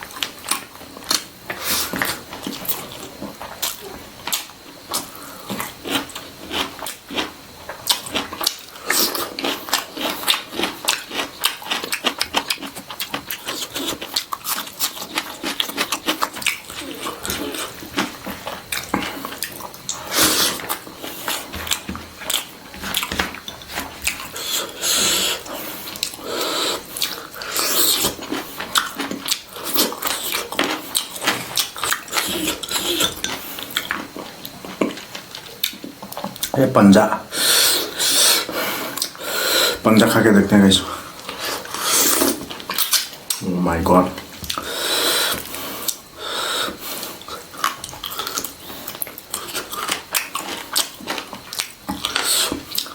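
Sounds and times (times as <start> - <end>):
wet chewing and lip-smacking: 0.1 - 36.6, 37.7 - 39.3, 41.2 - 43.4, 44.4 - 52.9.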